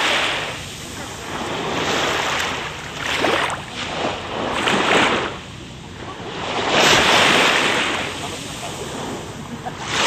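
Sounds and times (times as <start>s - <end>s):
small waves washing on a beach: 0.0s - 10.0s.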